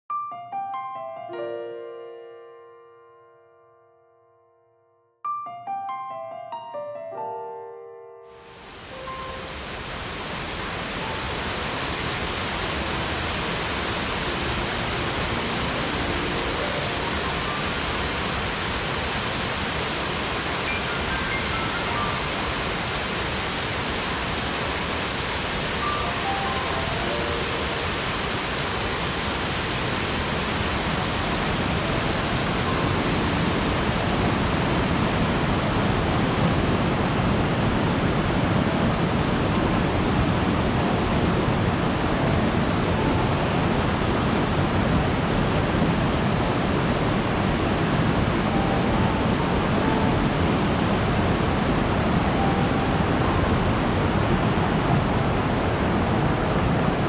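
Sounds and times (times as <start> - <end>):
waterfall roaring: 8.4 - 57.0.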